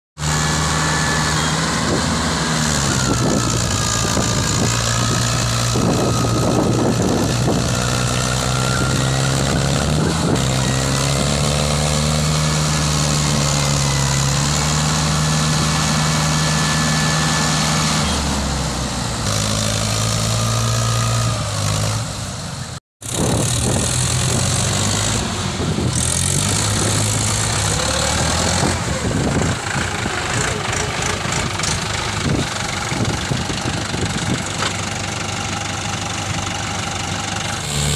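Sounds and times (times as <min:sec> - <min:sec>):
tractor diesel engine running hard: 0:00.2 - 0:37.9.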